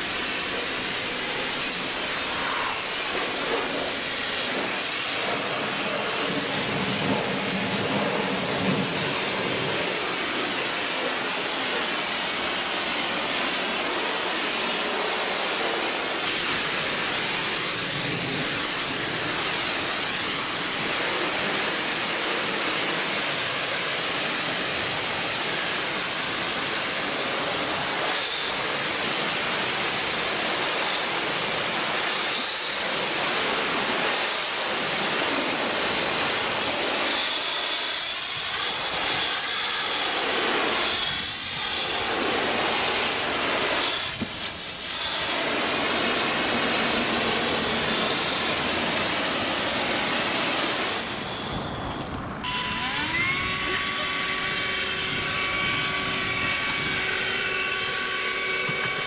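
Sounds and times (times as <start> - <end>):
pressure washer spraying water: 0.0 - 51.8, 53.0 - 59.0.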